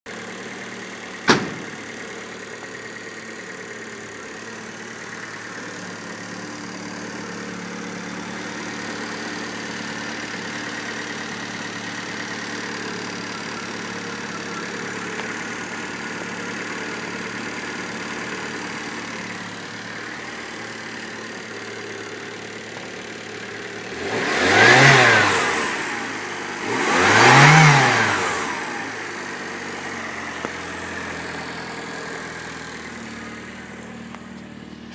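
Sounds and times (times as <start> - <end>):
car engine idling and revving: 0.1 - 34.9.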